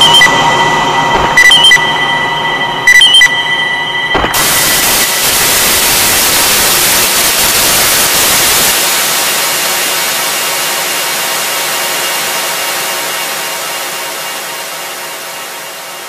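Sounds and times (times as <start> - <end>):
synthesized white noise wash: 0.0 - 16.0.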